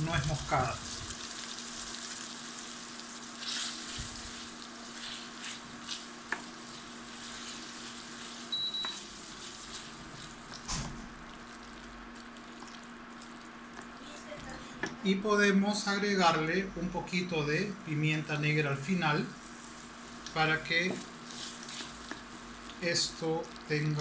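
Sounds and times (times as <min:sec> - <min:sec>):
pasta sizzling in a frying pan: 0:00.0 - 0:14.9, 0:18.9 - 0:24.0.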